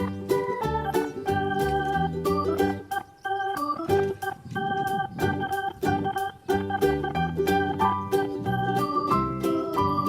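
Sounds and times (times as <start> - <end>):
organ-like chords over a beat: 0.0 - 10.0.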